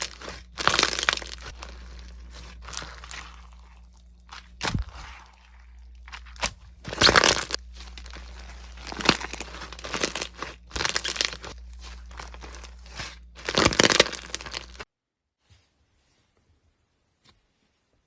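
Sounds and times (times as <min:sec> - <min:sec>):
crunchy slime squishing: 0:00.0 - 0:14.9.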